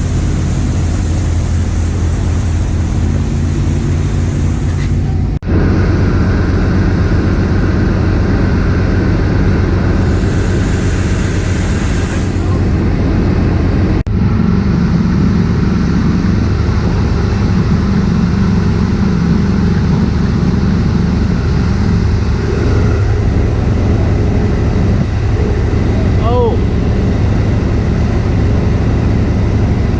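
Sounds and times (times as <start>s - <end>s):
boat engines running: 0.0s - 29.9s
rush of wind and water: 0.0s - 29.9s.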